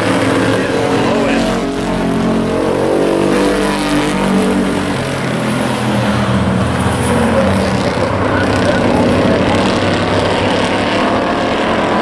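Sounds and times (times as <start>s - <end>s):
race truck engines running hard: 0.0s - 12.0s.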